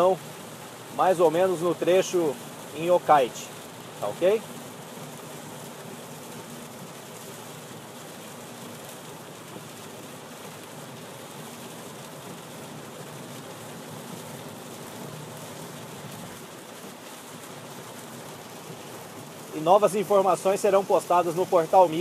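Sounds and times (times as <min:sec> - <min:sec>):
heavy rain on car windshield: 0:00.0 - 0:22.0.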